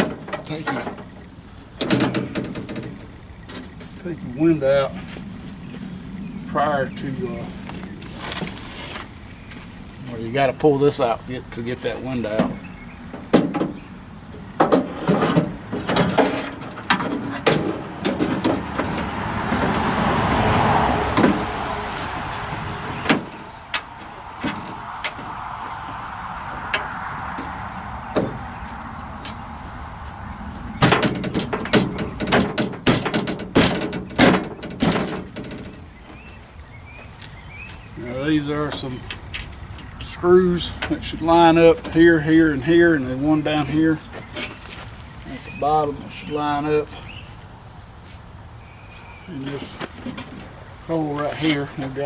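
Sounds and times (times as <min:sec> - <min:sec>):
knocks and clunks: 0:00.0 - 0:52.0
scraping and squeaking metal and rubber: 0:00.0 - 0:52.0.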